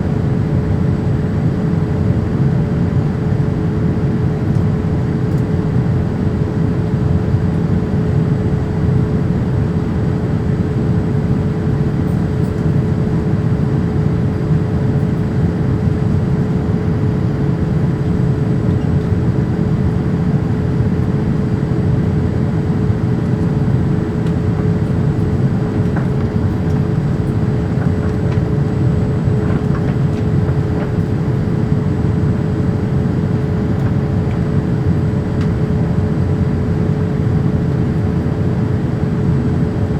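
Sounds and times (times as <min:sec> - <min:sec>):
airflow and jet engine noise: 0:00.0 - 0:39.9
mid-pitched hum: 0:00.0 - 0:39.9.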